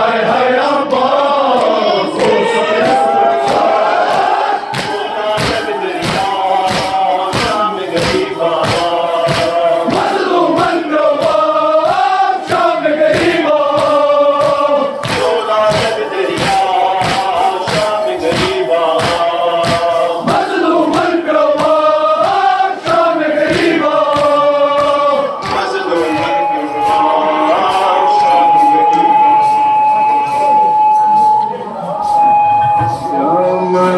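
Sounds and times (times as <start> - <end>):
men chanting in unison: 0.0 - 29.4
sharp regular beats: 0.0 - 33.9.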